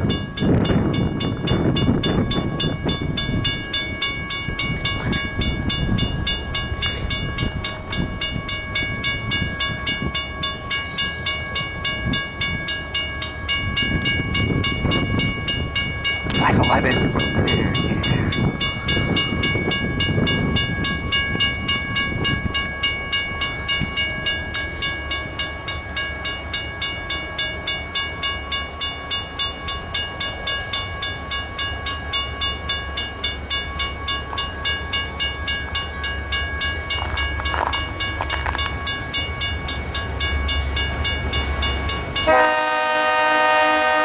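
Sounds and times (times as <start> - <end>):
diesel train rumble: 0.0 - 44.0
railroad crossing bell ringing: 0.0 - 44.0.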